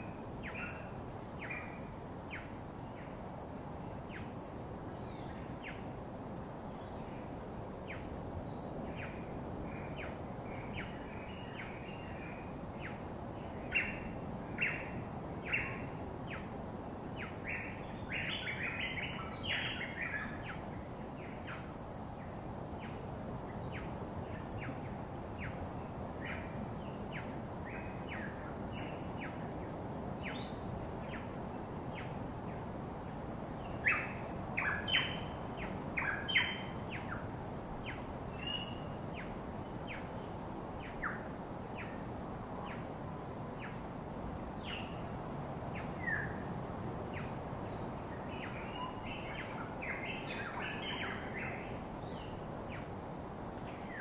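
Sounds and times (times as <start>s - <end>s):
wild birds chirping: 0.0s - 3.2s, 3.9s - 54.0s.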